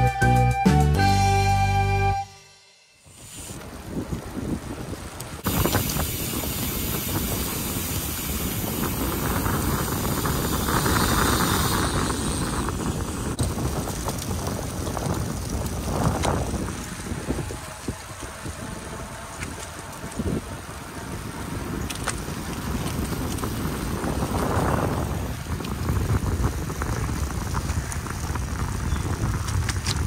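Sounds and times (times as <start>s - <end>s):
bicycle tyres rolling on pavement: 3.0s - 30.0s
wind buffeting microphone: 3.1s - 30.0s.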